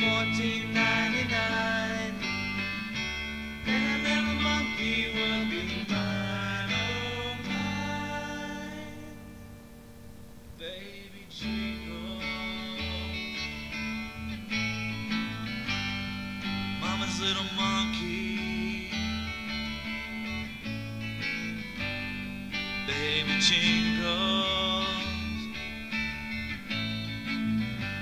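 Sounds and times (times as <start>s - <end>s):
bass line: 0.0s - 10.0s, 11.4s - 28.0s
country guitar music: 0.0s - 28.0s.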